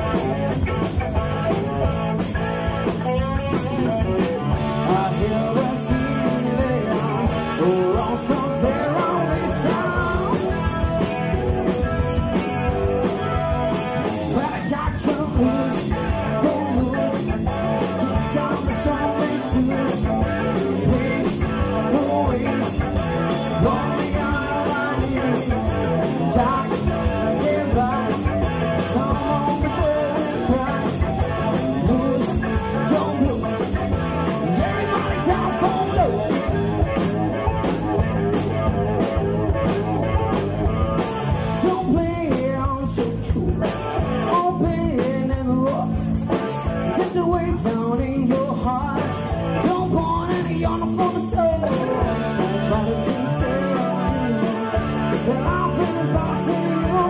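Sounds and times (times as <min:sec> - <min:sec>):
bass guitar: 0:00.0 - 0:57.0
drum kit beat: 0:00.0 - 0:57.0
electric guitar: 0:00.0 - 0:57.0
man singing: 0:02.6 - 0:37.1, 0:41.4 - 0:46.1, 0:46.8 - 0:57.0.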